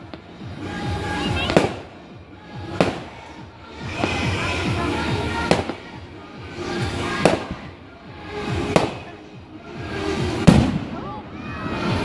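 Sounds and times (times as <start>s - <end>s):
fireworks bangs: 0.0s - 9.2s, 9.9s - 12.0s.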